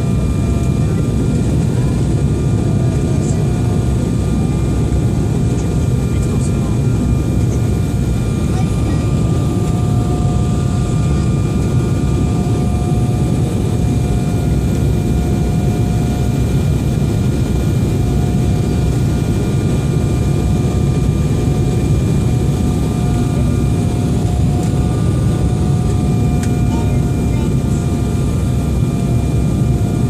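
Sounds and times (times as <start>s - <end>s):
jet engines rumbling and whining: 0.0s - 30.0s.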